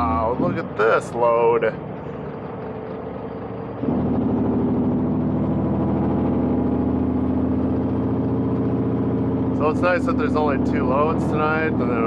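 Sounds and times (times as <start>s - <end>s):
diesel truck engine from inside cab: 0.0s - 12.0s.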